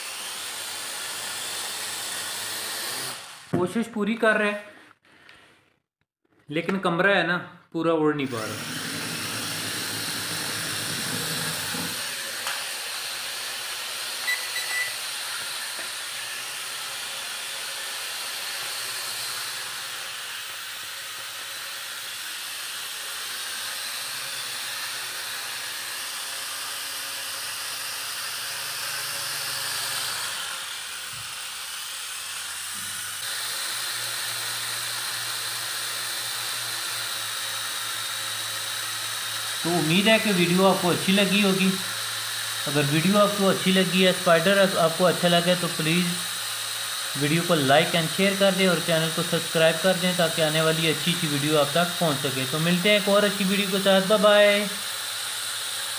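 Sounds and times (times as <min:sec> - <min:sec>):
toy drone propellers whirring: 0:00.0 - 0:03.6, 0:08.3 - 0:55.9.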